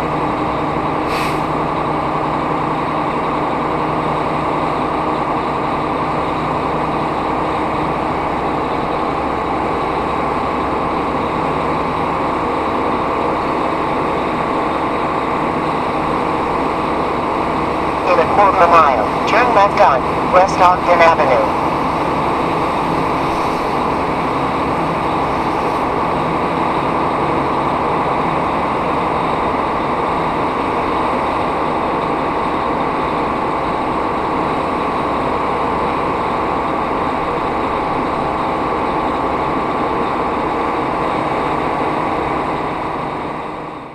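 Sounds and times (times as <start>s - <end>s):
diesel truck engine running: 0.0s - 43.9s
road and cab noise: 0.0s - 43.9s.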